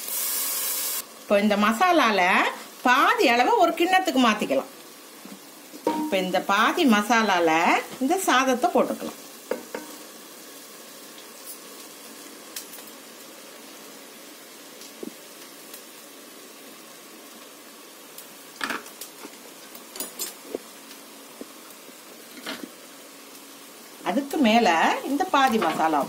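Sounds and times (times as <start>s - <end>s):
food sizzling in a pressure cooker: 0.0s - 26.0s.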